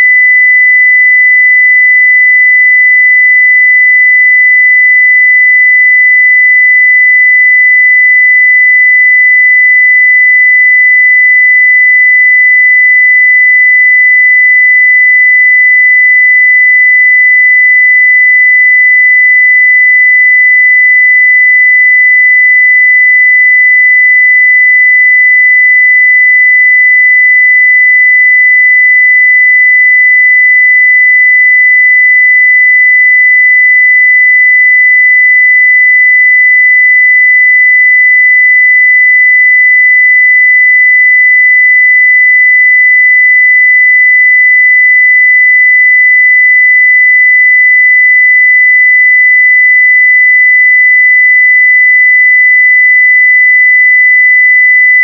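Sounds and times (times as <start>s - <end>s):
sine-wave test tone: 0.0s - 55.0s.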